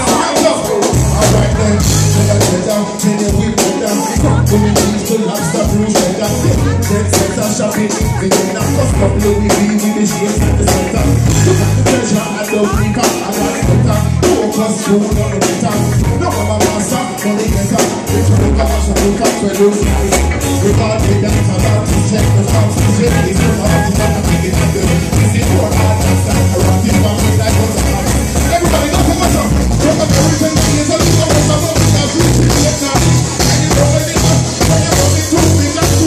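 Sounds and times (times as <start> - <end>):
heavy bass line: 0.0 - 36.0
live reggae band playing: 0.0 - 36.0
person singing: 0.0 - 36.0.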